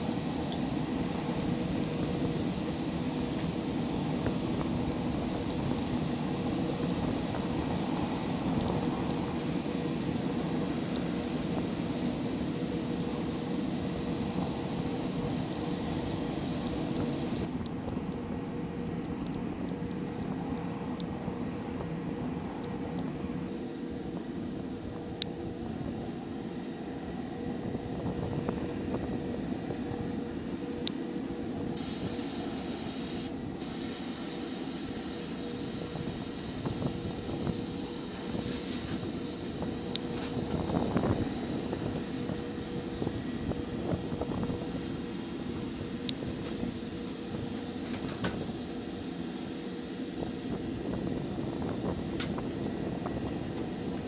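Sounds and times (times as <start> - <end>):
machinery drone: 0.0 - 54.0.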